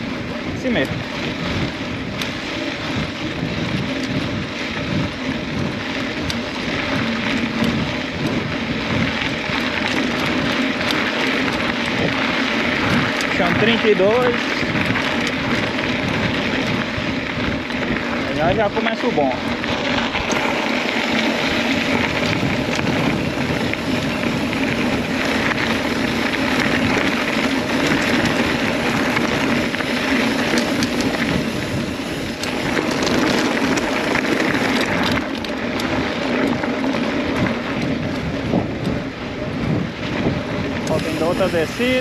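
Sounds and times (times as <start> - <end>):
bike rattles and knocks: 0.0 - 42.0
bike tyres rumbling on dirt: 0.0 - 42.0
wind rushing over microphone: 0.0 - 42.0.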